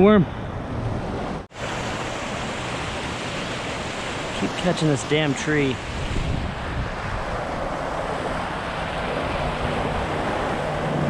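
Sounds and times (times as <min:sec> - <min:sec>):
creek rushing: 0:01.5 - 0:11.0.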